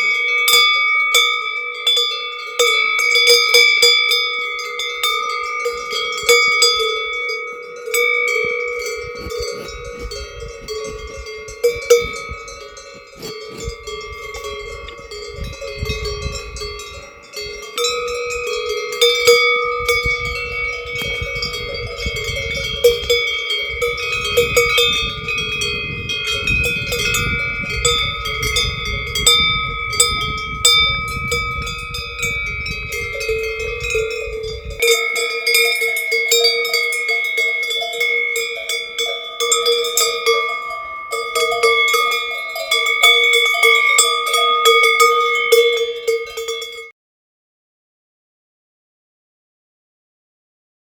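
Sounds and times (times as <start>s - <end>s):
cowbells clanking: 0.0s - 46.9s.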